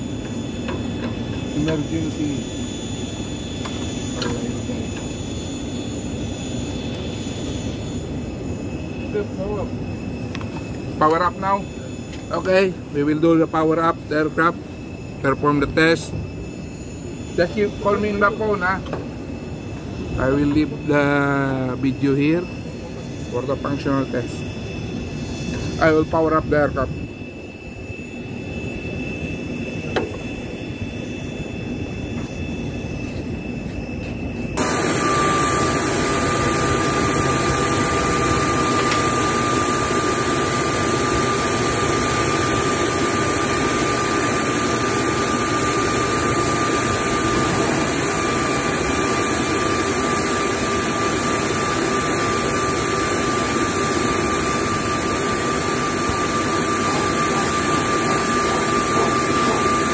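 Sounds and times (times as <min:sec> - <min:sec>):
gas turbine whine: 0:00.0 - 0:59.9.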